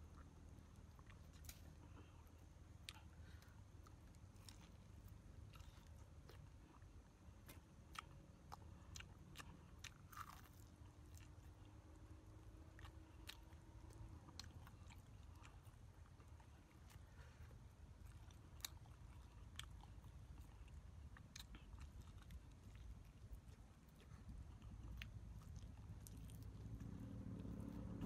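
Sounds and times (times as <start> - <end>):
person chewing fried chicken: 0.0 - 28.0.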